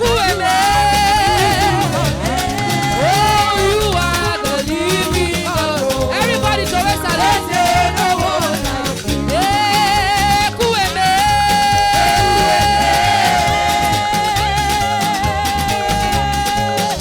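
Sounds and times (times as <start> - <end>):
danceable percussion beat: 0.0 - 17.0
wavering melody line: 0.0 - 17.0.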